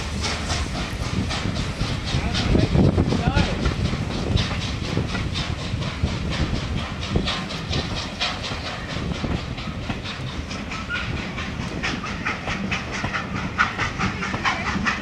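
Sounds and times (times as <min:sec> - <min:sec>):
steady rolling train noise: 0:00.0 - 0:15.0
train wheels clattering over rail joints: 0:00.0 - 0:15.0.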